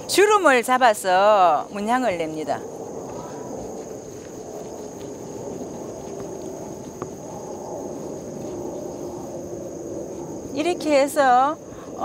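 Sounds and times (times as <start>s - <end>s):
high-pitched insect trill: 0.0s - 12.0s
low background rumble: 0.0s - 12.0s.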